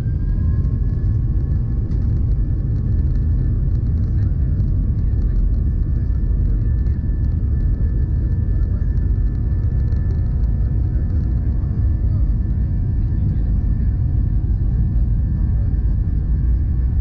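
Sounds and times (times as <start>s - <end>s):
faint steady whine: 0.0s - 17.0s
jet engine rumble in cabin: 0.0s - 17.0s.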